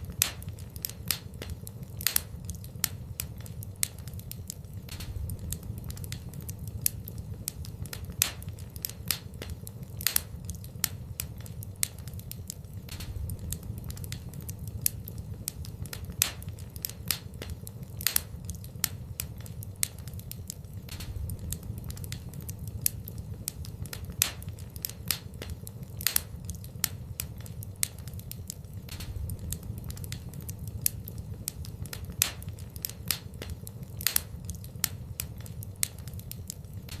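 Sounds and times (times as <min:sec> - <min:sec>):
wood fire crackling: 0:00.0 - 0:37.0
low rumble: 0:02.4 - 0:35.5.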